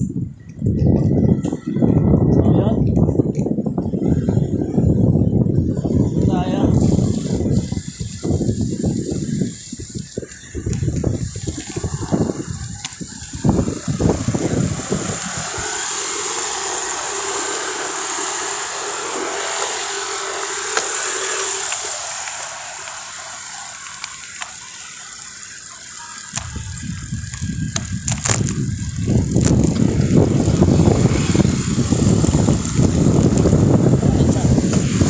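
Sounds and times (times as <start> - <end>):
street and road noise: 0.0 - 35.0
wind buffeting microphone: 0.0 - 35.0
steady hiss: 3.8 - 35.0.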